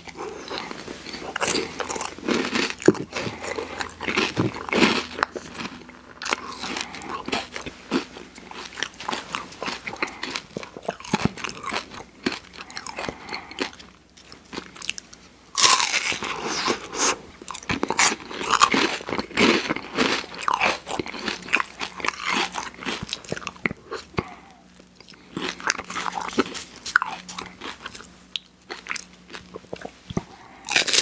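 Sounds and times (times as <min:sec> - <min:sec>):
crunching wafer cone: 0:00.0 - 0:24.4, 0:25.0 - 0:31.0.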